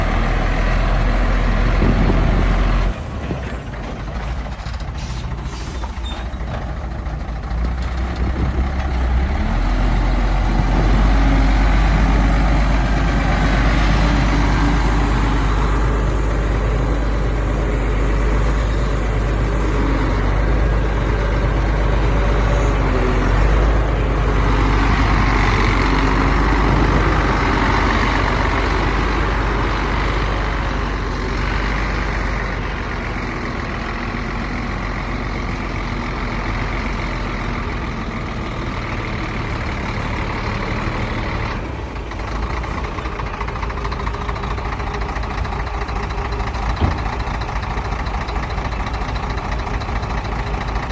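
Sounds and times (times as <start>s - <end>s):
heavy diesel machinery rumble: 0.0s - 50.9s.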